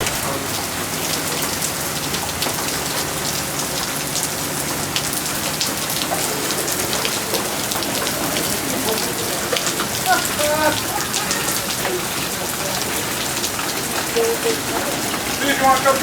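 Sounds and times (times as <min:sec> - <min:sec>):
heavy rain pouring: 0:00.0 - 0:16.0
raindrops ticking on hard surfaces: 0:00.0 - 0:16.0.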